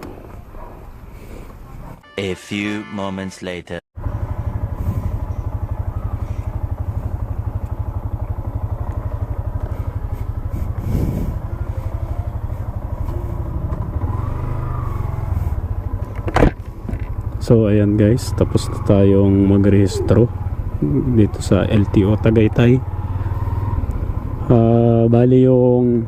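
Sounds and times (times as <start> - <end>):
motorcycle engine running: 4.0 - 26.0.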